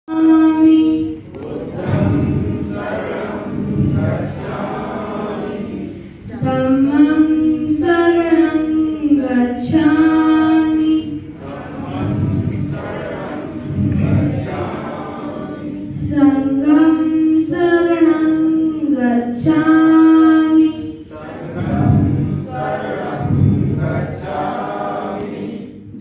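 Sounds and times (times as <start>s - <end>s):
group singing in unison: 0.1s - 26.0s.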